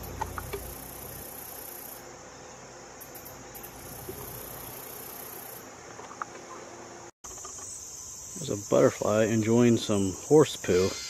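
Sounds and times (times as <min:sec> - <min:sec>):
crickets and insects chirping: 0:00.0 - 0:11.0.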